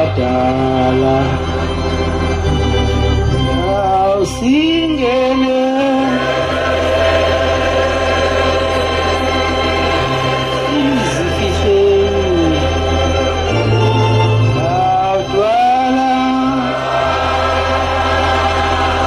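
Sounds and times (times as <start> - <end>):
organ chords on a keyboard: 0.0 - 19.0.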